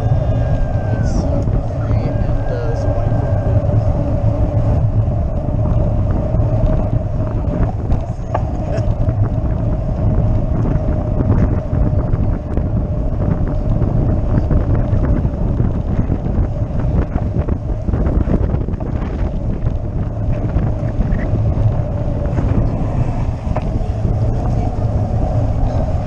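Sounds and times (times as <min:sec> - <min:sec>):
constant hum: 0:00.0 - 0:26.0
tyre road rumble: 0:00.0 - 0:26.0
wind buffeting microphone: 0:00.0 - 0:26.0.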